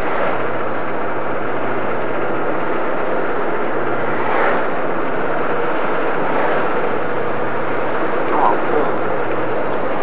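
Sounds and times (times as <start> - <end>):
road noise: 0.0 - 10.0
vehicle engine: 0.0 - 10.0.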